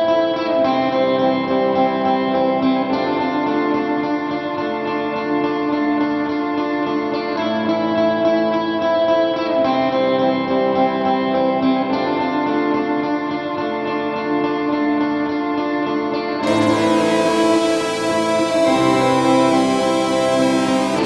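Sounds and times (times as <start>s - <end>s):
guitar background music: 0.4s - 21.0s.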